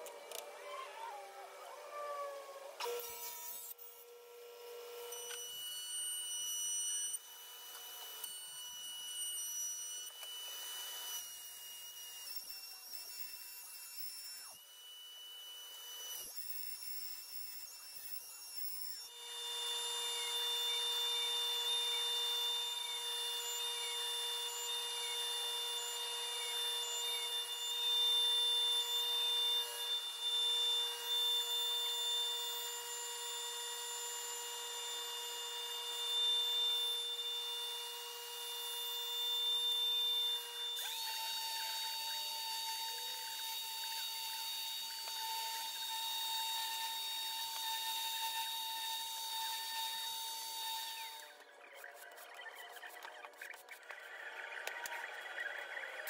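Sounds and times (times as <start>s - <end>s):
router whining: 0.0s - 56.0s
table saw cutting boards: 0.0s - 56.0s.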